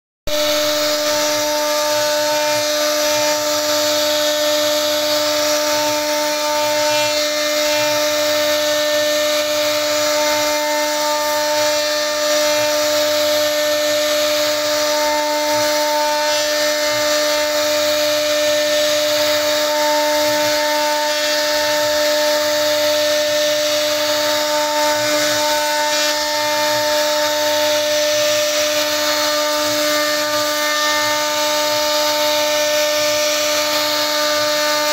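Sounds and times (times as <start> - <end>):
router spindle whine: 0.3 - 34.9.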